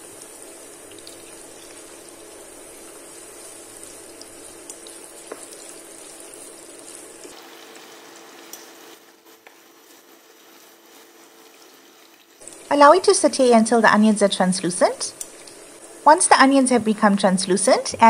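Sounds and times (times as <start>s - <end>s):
vegetables sizzling in hot oil: 0.0s - 16.7s.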